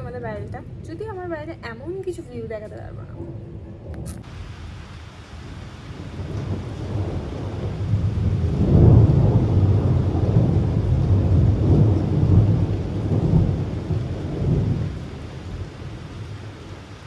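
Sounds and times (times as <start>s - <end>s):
light rain: 0.0s - 17.0s
thunder rolling: 3.3s - 17.0s.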